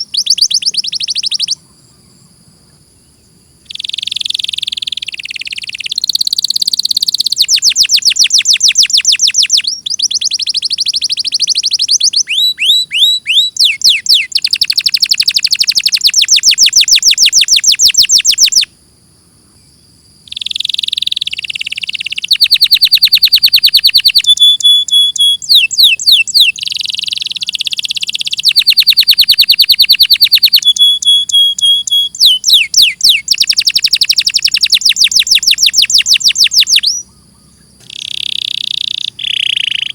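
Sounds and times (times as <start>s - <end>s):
canary singing: 0.0s - 1.6s, 3.6s - 18.7s, 20.3s - 39.9s.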